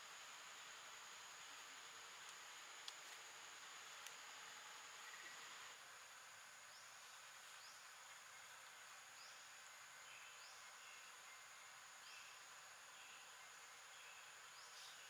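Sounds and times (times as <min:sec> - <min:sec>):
high-pitched insect hum: 0:00.0 - 0:15.0.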